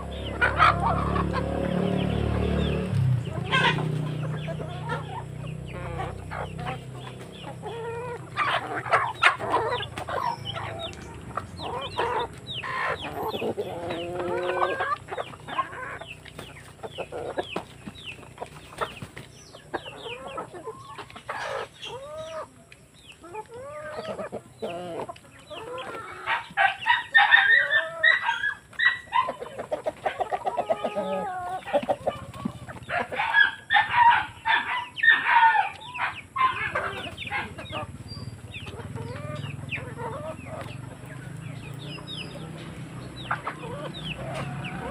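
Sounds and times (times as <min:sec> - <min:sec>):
chickens clucking and squawking: 0:00.0 - 0:44.9.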